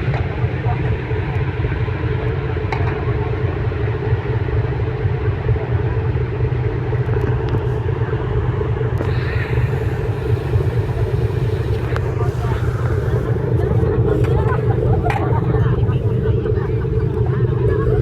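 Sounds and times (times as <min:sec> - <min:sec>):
ship engines humming: 0:00.0 - 0:18.0.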